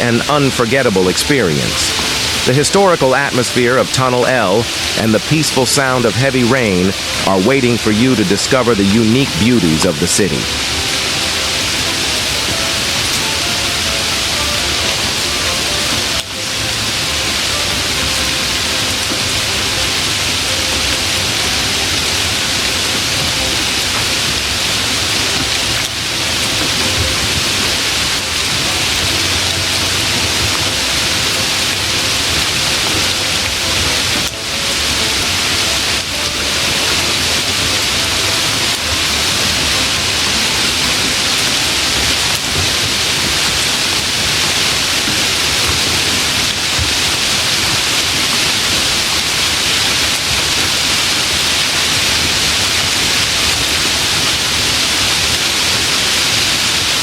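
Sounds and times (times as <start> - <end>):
heavy rain on pavement and rooftops: 0.0 - 57.0.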